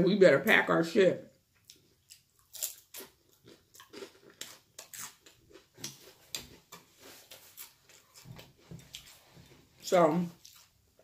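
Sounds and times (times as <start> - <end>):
person chewing food: 1.5 - 9.8, 10.4 - 11.0.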